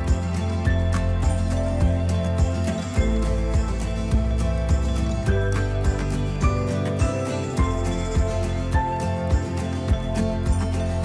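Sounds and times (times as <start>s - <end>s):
music with sustained chords and beat: 0.0s - 11.0s.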